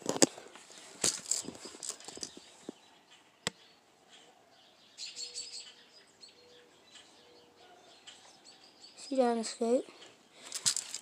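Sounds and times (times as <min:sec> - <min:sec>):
small birds chirping: 0:00.7 - 0:11.0.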